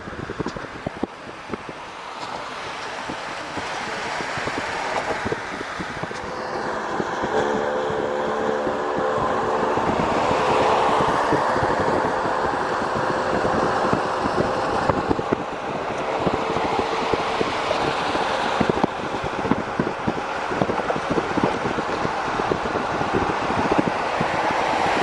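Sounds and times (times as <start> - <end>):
tyre and wind noise: 0.0 - 25.0.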